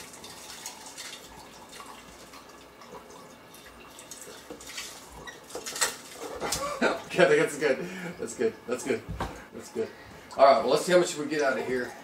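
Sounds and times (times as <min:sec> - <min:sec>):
juice trickling and dripping: 0:00.0 - 0:12.0.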